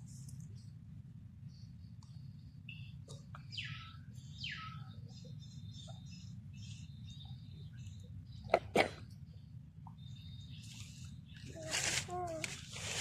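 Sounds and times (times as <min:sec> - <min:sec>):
low background rumble: 0:00.0 - 0:12.8.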